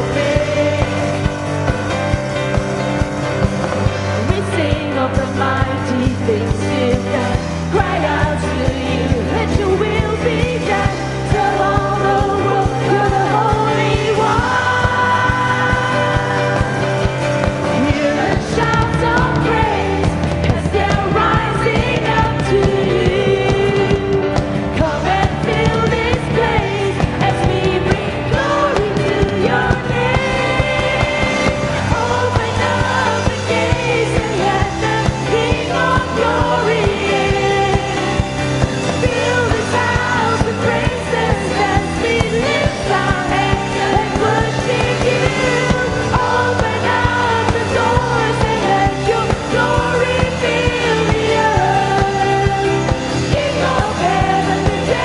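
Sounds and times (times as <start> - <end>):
steady bass line: 0.0 - 55.0
worship band playing: 0.0 - 55.0
person singing: 3.7 - 55.0.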